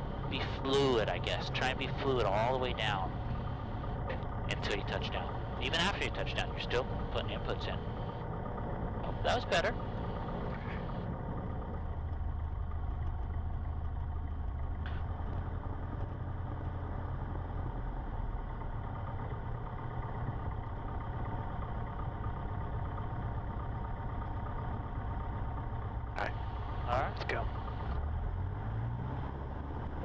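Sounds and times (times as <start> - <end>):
airplane engine idling: 0.0 - 30.0.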